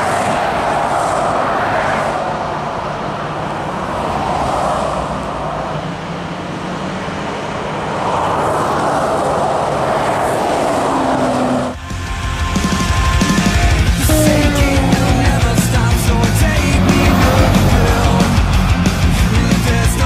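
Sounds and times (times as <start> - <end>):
highway traffic passing: 0.0 - 11.9, 12.8 - 20.0.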